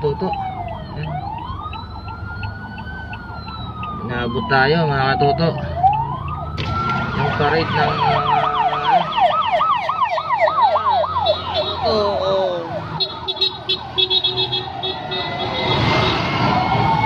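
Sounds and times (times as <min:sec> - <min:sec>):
yelp siren warbling: 0:00.0 - 0:14.0, 0:14.6 - 0:17.0
emergency vehicle sirens: 0:00.0 - 0:17.0.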